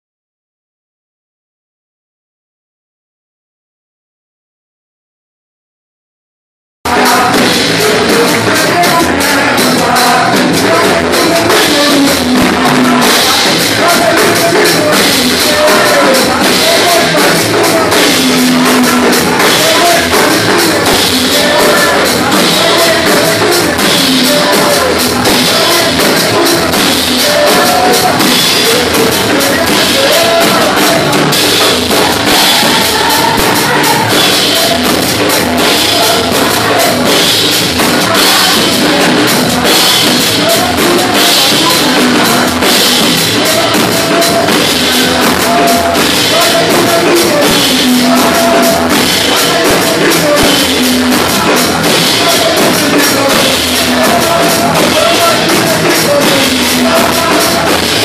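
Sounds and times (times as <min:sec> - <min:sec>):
drum kit: 0:06.8 - 0:58.0
voices singing gospel: 0:06.9 - 0:58.0.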